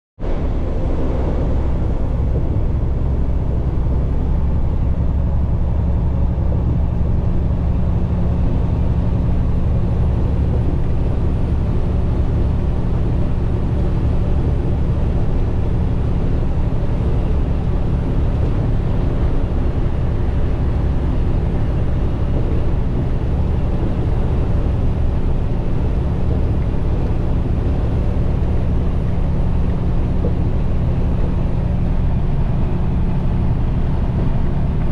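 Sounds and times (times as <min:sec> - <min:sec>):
truck engine drone: 0:00.2 - 0:34.9.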